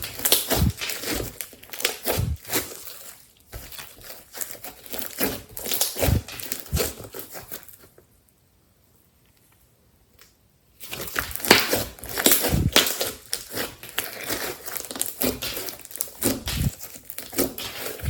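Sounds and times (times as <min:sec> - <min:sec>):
slime squeezed crackling: 0:00.0 - 0:07.6, 0:10.8 - 0:18.0.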